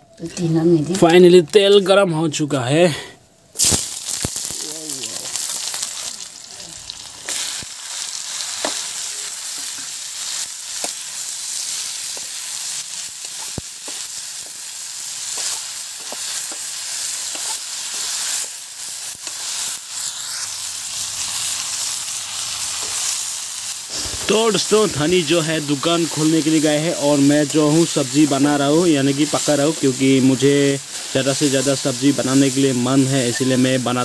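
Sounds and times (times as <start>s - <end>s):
potatoes sizzling in hot oil: 3.5s - 34.0s.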